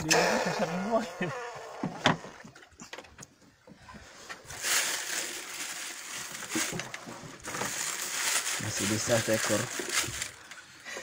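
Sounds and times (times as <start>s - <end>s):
water splashing and sloshing: 1.8s - 11.0s.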